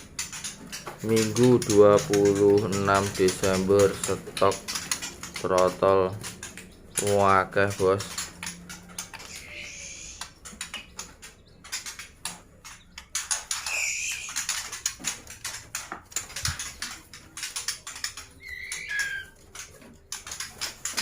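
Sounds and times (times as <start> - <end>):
cage taps and rattles: 0.0 - 9.3, 10.2 - 21.0
bird chirps: 0.0 - 21.0
birds hopping and fluttering: 0.0 - 21.0.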